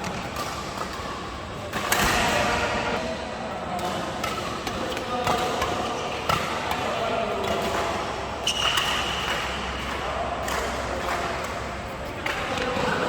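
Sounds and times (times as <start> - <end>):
rackets hitting shuttlecock: 0.0 - 3.1, 3.7 - 13.0.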